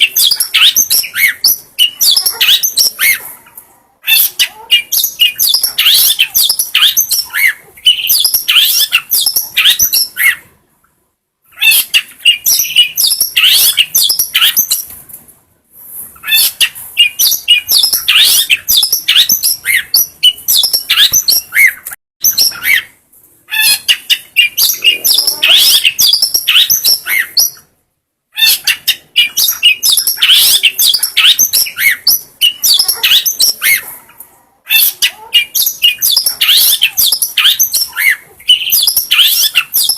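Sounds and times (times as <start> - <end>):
bird chattering song: 0.0 - 3.3, 4.1 - 10.5, 11.5 - 14.9, 16.2 - 27.7, 28.4 - 33.9, 34.7 - 39.9.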